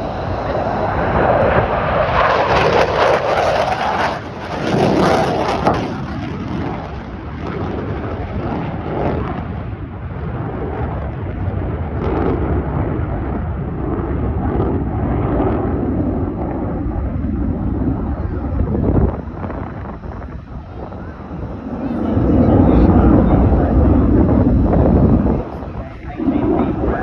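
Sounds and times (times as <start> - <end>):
fighter jet flying past: 0.0 - 27.0.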